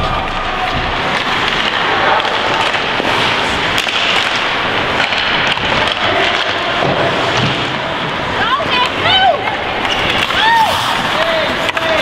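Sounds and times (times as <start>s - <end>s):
hockey sticks clacking: 0.0s - 12.0s
skate blades scraping on ice: 0.9s - 12.0s.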